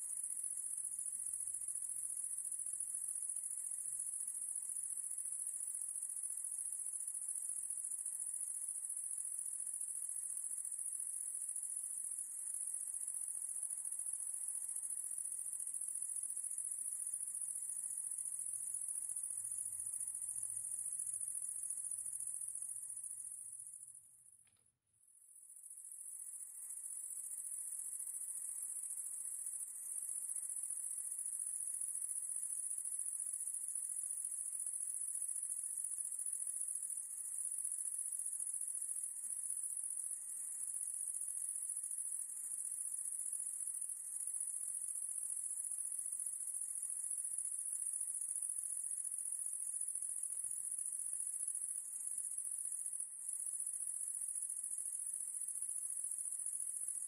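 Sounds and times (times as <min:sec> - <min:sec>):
high-pitched insect chorus: 0:00.2 - 0:24.0, 0:25.6 - 0:57.0.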